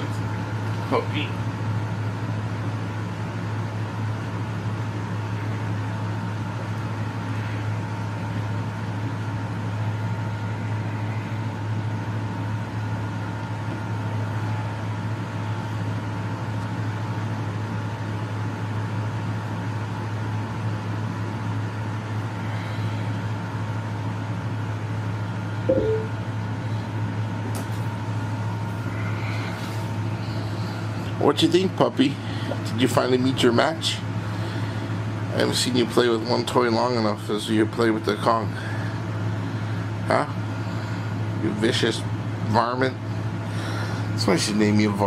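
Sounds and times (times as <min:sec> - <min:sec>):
electric fan humming: 0:00.0 - 0:45.0.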